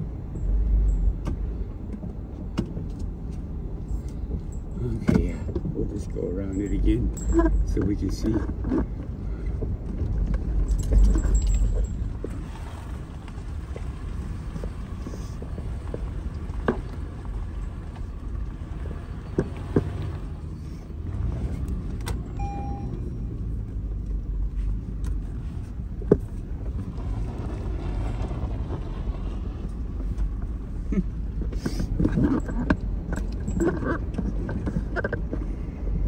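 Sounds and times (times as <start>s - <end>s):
car driving rumble: 0.0s - 36.0s.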